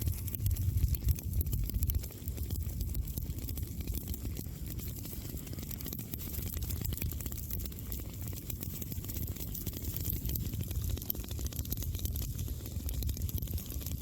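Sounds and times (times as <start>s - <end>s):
campfire crackling: 0.0s - 14.0s
low steady rumble: 0.0s - 14.0s.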